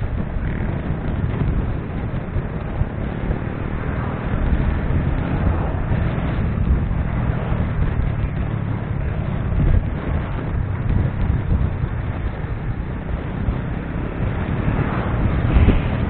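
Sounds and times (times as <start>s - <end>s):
motorcycle engine hum: 0.0s - 16.0s
road noise: 0.0s - 16.0s
wind buffeting microphone: 0.0s - 16.0s.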